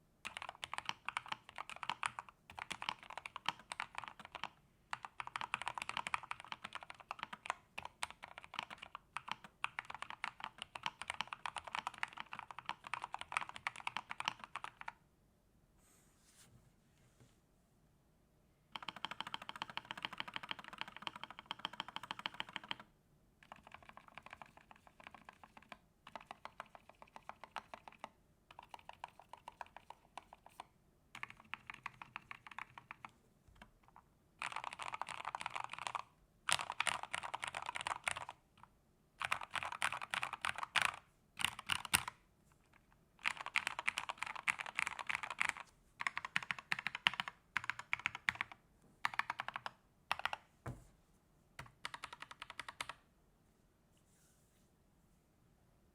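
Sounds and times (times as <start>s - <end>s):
mechanical keyboard typing: 0.2s - 15.0s, 18.8s - 38.4s, 39.2s - 50.4s, 51.6s - 53.0s.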